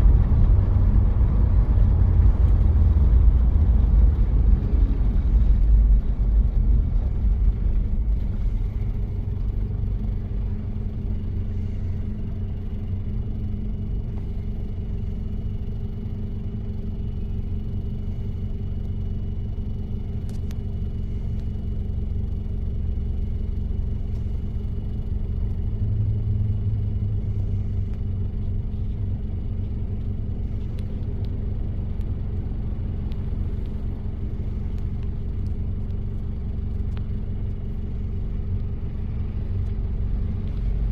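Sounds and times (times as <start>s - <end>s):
diesel engine running while driving: 0.0s - 40.9s.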